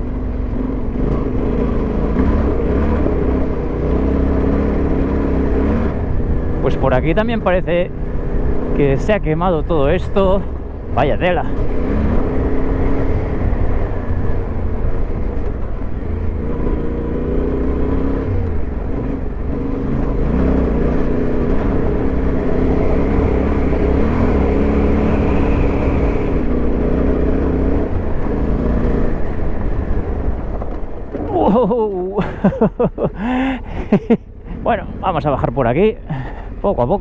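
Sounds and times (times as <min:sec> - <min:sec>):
motorcycle engine revving: 0:00.0 - 0:35.5.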